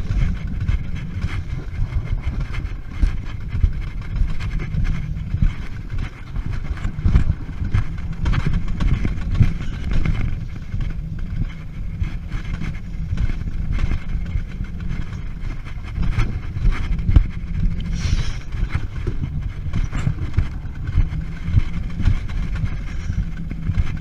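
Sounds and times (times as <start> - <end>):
sled rumbling and rattling on rail: 0.0 - 24.0.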